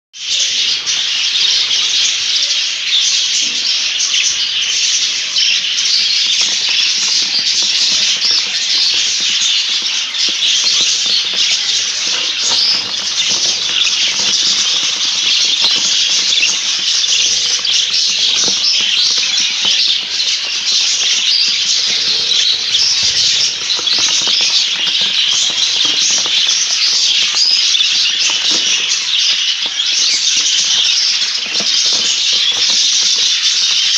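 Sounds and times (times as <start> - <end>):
budgerigars chattering: 0.2 - 33.9.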